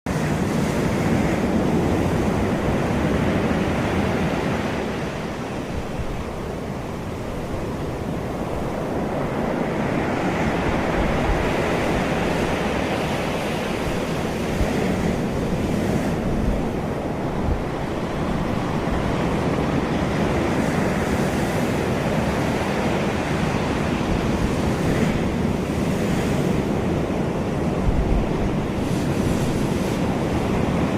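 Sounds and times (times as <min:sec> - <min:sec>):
ocean waves breaking on beach: 0:00.1 - 0:30.9
wind buffeting microphone: 0:00.1 - 0:30.9.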